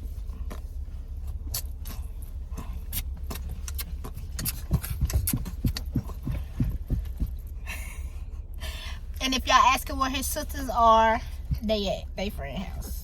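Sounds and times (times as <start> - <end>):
car idling hum: 0.0 - 13.0.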